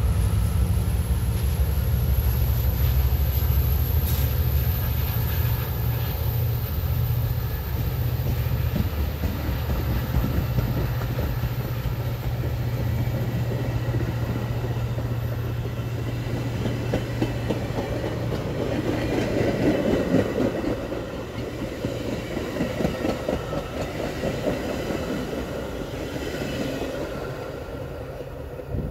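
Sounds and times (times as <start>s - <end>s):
train wheels clacking on rails: 2.2s - 27.9s.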